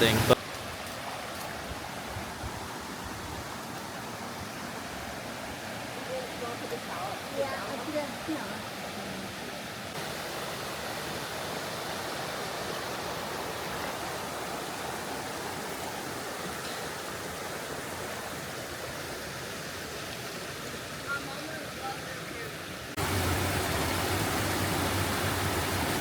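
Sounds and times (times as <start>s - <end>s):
creek water running: 0.0s - 26.0s.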